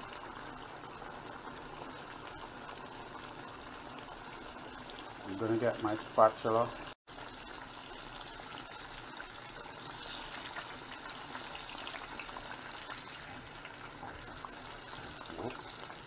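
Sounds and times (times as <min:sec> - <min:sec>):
fish deep-frying in oil: 0:00.0 - 0:16.0.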